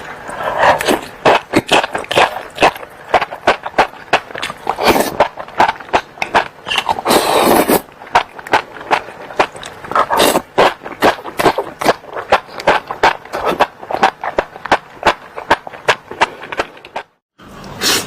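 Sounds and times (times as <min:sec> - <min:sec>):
slurp: 0:00.2 - 0:17.1
wet mouth chewing clicks: 0:00.7 - 0:17.2.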